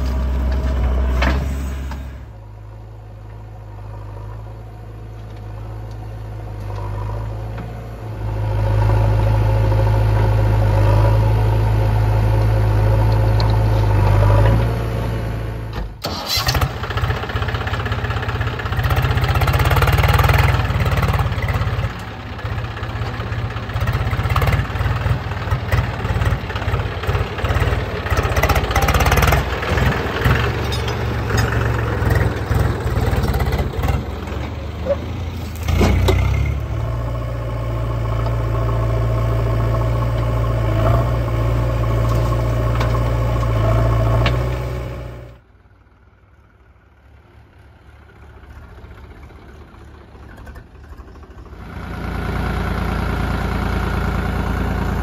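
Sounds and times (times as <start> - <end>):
fluctuating engine rumble: 0.0 - 15.7, 16.4 - 55.0
diesel engines running: 0.0 - 55.0.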